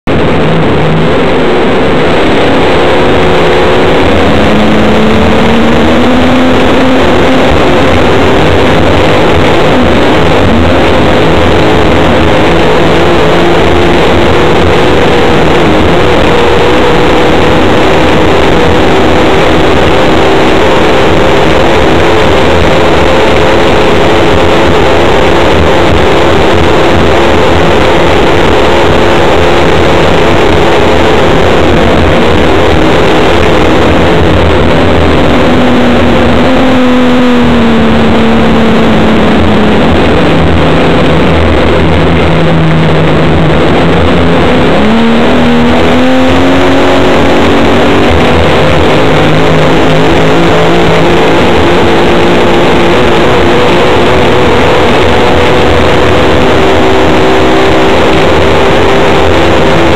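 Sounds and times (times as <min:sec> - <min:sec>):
racing boat engine at full throttle: 0:00.0 - 0:59.9.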